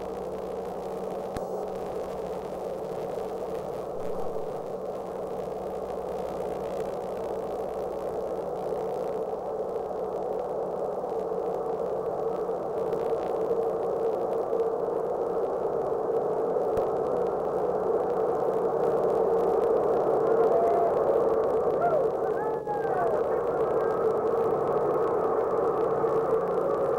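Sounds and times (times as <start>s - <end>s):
static hiss: 0.0s - 26.9s.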